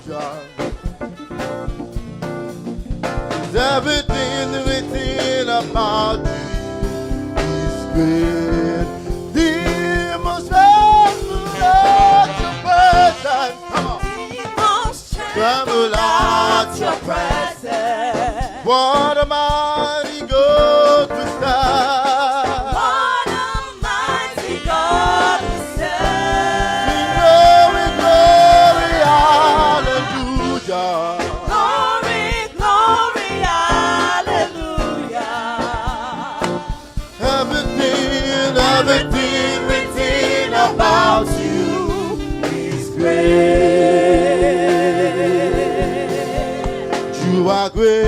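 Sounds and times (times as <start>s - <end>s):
gospel choir singing: 0.0s - 48.0s.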